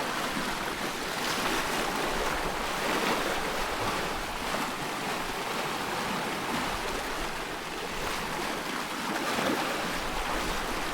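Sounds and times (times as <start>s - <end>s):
water lapping and splashing: 0.0s - 10.9s.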